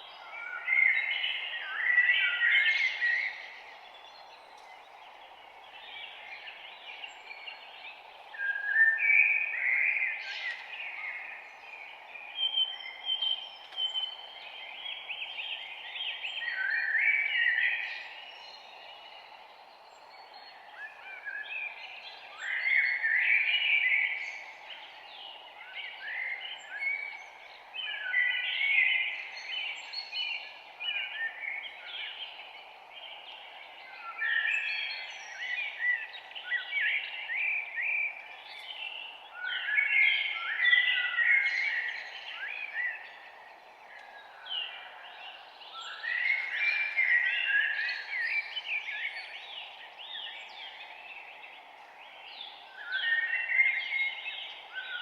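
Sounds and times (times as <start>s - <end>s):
songbirds warbling: 0.0s - 55.0s
steady background hiss: 0.0s - 55.0s.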